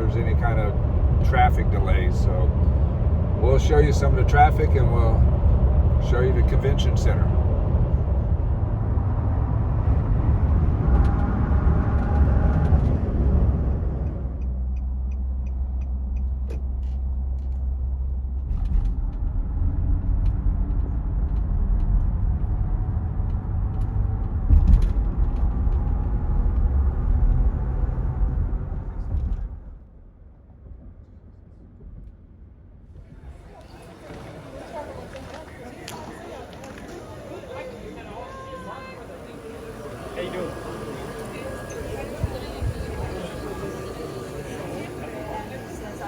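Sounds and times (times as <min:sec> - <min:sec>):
car road and engine rumble: 0:00.0 - 0:29.8, 0:33.0 - 0:46.0.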